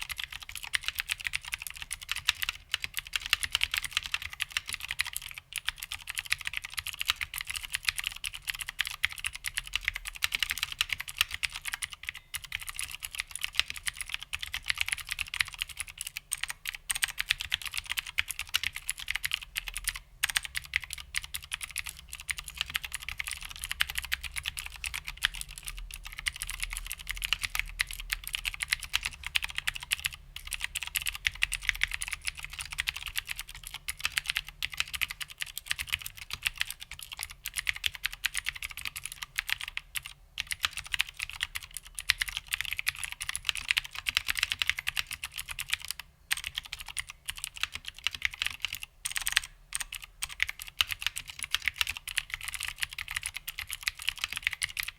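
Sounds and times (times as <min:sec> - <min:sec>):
mechanical keyboard typing: 0:00.0 - 0:54.9.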